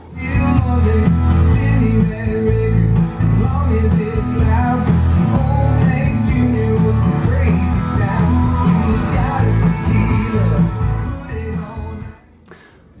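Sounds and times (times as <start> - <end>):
loud music with singing and bass: 0.0 - 12.2.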